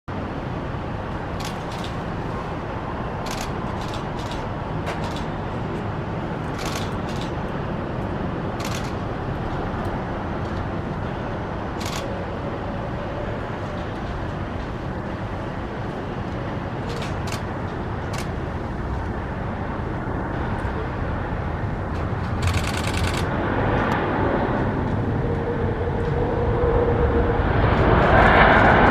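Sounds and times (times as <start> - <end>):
jet engines rumbling: 0.1 - 28.9.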